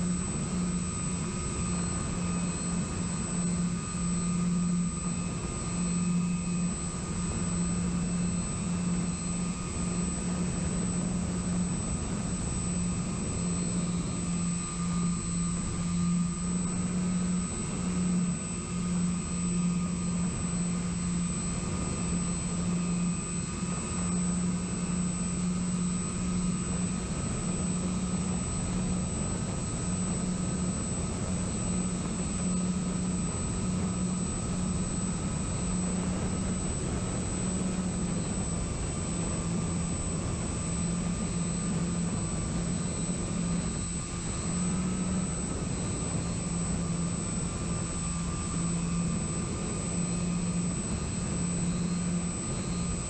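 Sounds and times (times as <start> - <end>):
high motor whine: 0.0 - 53.0
propeller drone: 0.0 - 53.0.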